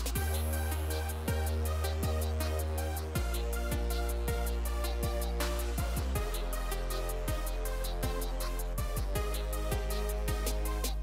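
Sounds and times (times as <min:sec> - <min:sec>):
deep kick drums: 0:00.0 - 0:10.7
held bass line: 0:00.0 - 0:11.0
hi-hat ticks: 0:00.0 - 0:11.0.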